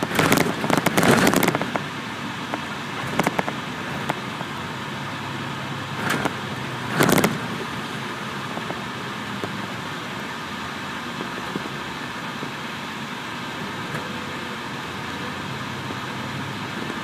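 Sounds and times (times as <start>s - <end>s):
coach engine and road hum: 0.0s - 17.0s.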